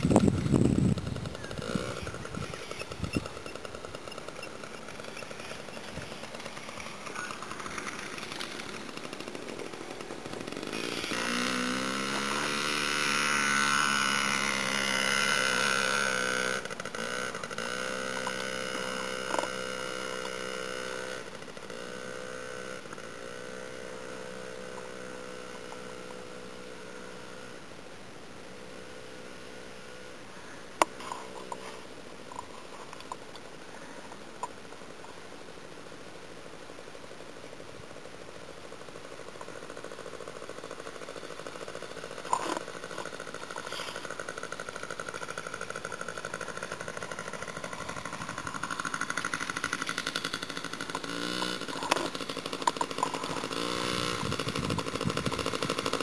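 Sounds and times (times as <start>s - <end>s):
dirt bike engine revving: 0.0s - 27.7s, 37.3s - 56.0s.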